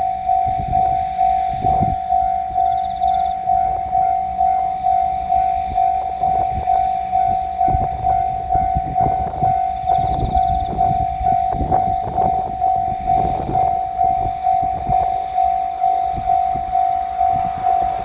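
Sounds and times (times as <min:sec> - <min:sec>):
level-crossing warning bell ringing: 0:00.0 - 0:18.0
train passing over crossing: 0:00.0 - 0:18.0.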